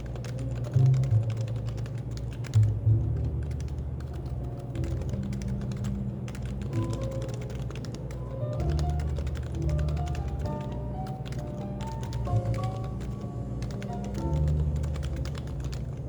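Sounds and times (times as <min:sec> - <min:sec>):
background music: 0:00.0 - 0:16.0
keyboard typing: 0:00.0 - 0:16.0.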